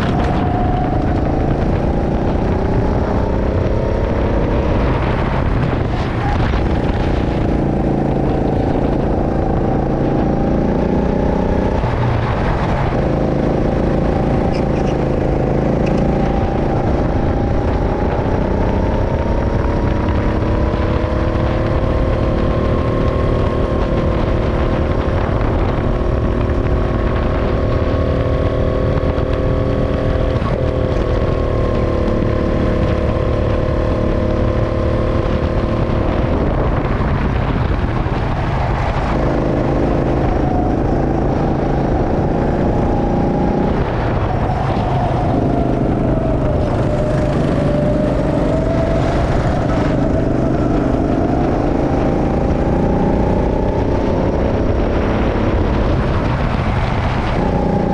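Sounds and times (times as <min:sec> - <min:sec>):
go-kart engine running hard: 0:00.0 - 0:57.9.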